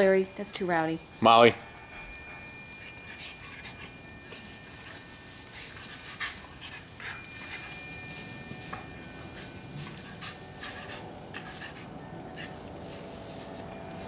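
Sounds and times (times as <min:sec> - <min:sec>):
wind chimes tinkling: 0:00.0 - 0:14.0
dogs scuffling in plants: 0:02.1 - 0:14.0.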